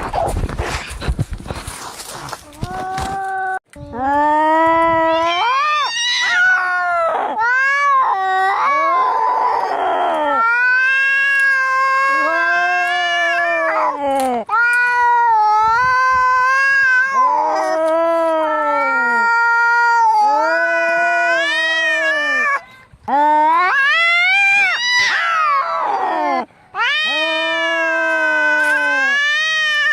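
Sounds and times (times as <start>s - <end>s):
cats yowling: 5.1s - 22.6s, 23.4s - 29.9s.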